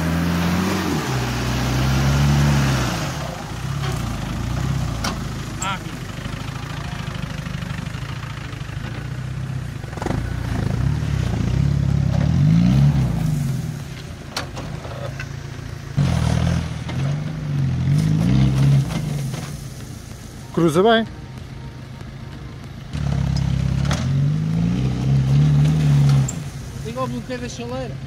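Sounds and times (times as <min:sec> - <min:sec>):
car engine revving under load: 0:00.0 - 0:28.0.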